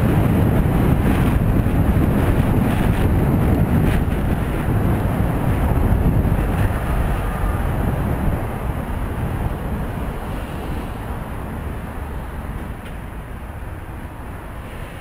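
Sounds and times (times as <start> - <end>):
road traffic rumble: 0.0 - 15.0
wind rushing over microphone: 0.0 - 15.0.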